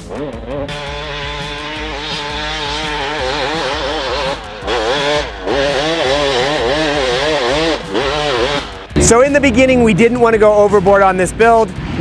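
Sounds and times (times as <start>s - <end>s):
two-stroke motorcycle engine revving: 0.0s - 12.0s.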